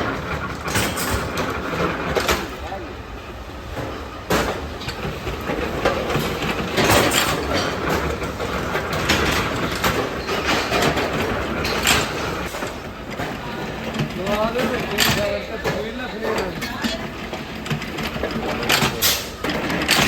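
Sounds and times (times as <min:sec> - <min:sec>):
metalworking machinery rumbling: 0:00.0 - 0:20.0.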